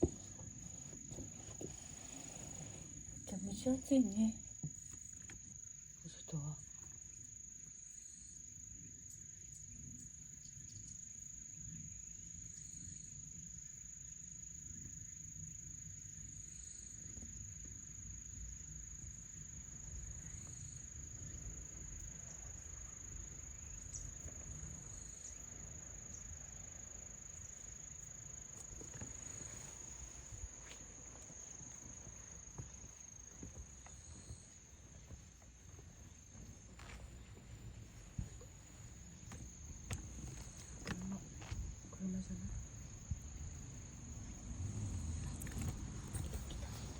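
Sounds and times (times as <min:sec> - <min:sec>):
insects trilling: 0:00.0 - 0:46.9
soft insect call: 0:00.0 - 0:46.9.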